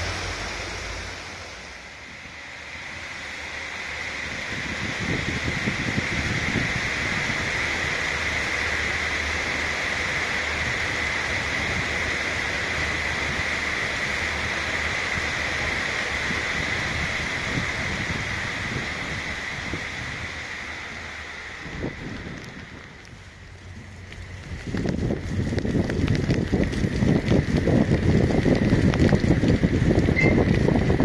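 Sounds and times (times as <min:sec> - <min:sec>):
heavy rain and wind: 0:00.0 - 0:31.0
low train rumble: 0:00.0 - 0:31.0.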